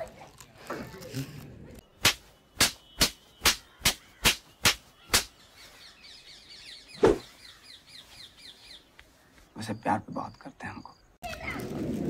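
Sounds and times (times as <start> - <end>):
faint bird chirping: 1.8 - 11.5.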